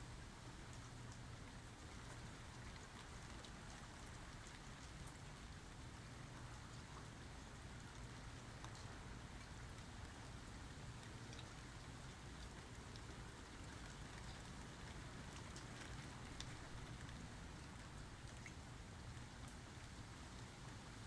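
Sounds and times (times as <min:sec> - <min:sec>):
light rain falling: 0:00.0 - 0:21.0
raindrops ticking on a surface: 0:00.1 - 0:21.0.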